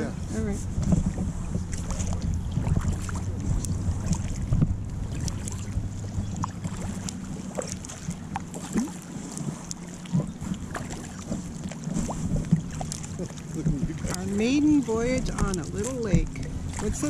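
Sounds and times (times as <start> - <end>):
paddle splashes: 0.0 - 17.0
water lapping against kayak: 0.0 - 17.0
wind rumble on microphone: 0.0 - 17.0.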